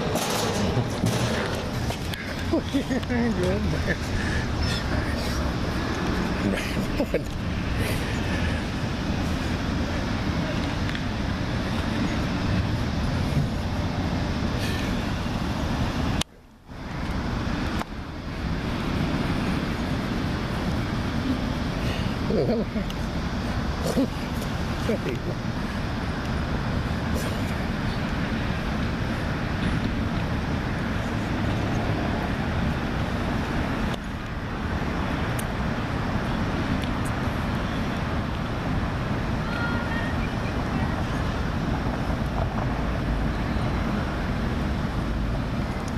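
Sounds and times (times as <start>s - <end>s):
city traffic rumble: 0.0s - 45.9s.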